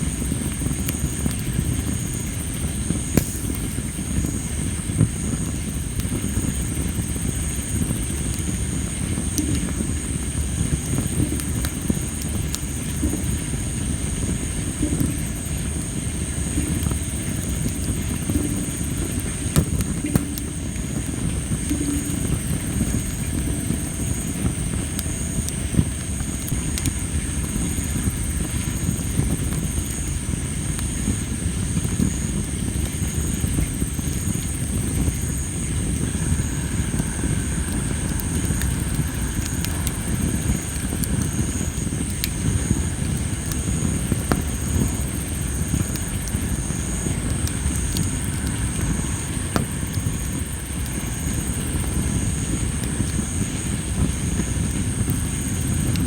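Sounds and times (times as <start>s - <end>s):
fire crackling and popping: 0.0s - 56.0s
insect pulsing chirp: 1.4s - 8.2s, 11.0s - 30.2s, 32.4s - 54.3s.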